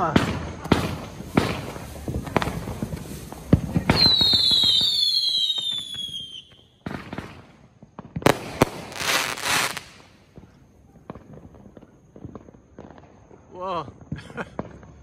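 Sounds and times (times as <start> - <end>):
crackling hissing firework burst: 0.0 - 13.2
firework bangs: 0.0 - 13.3
whistling fireworks: 0.0 - 15.0.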